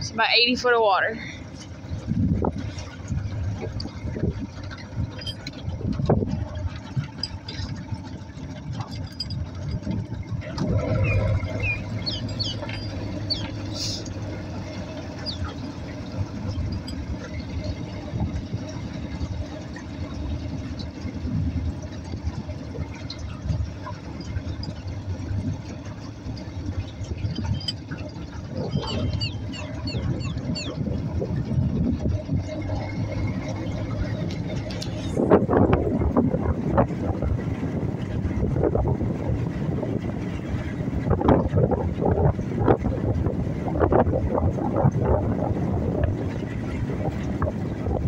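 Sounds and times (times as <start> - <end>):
outboard motor running: 0.0 - 48.0
wind and water rushing: 0.0 - 48.0.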